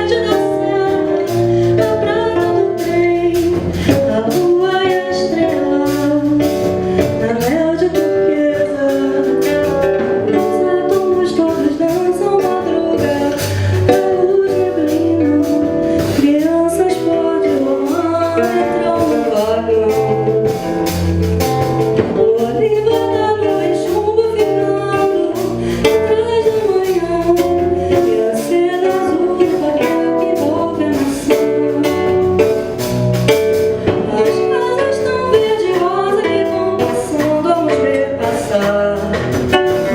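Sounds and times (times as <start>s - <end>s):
acoustic guitar: 0.0s - 39.9s
bass guitar: 0.0s - 39.9s
drum kit beat: 0.0s - 39.9s
woman singing: 0.0s - 39.9s.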